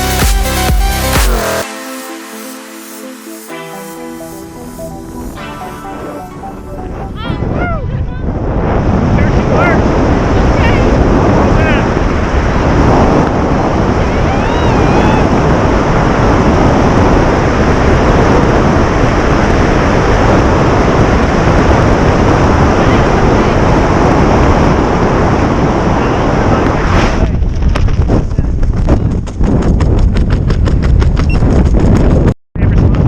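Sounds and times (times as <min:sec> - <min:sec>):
freefall wind buffeting microphone: 0:04.8 - 0:33.0.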